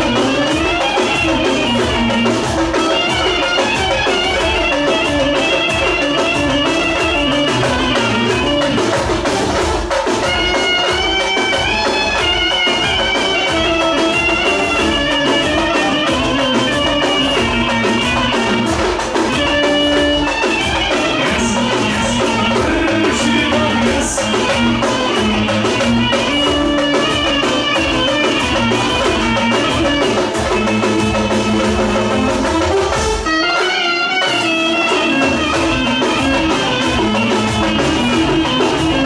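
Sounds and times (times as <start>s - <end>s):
dance music: 0.0s - 39.0s
high stepping lead melody: 0.0s - 39.0s
steady drum beat: 0.0s - 39.0s.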